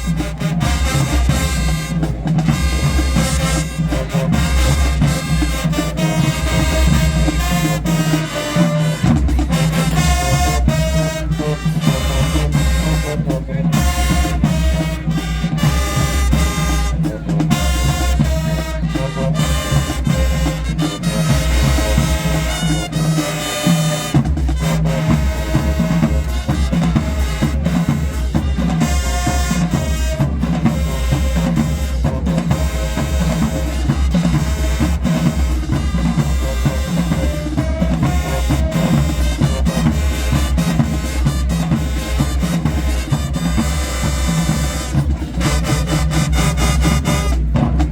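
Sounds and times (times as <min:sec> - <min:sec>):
marching band playing: 0:00.0 - 0:47.9
snare and bass drums: 0:00.0 - 0:47.9.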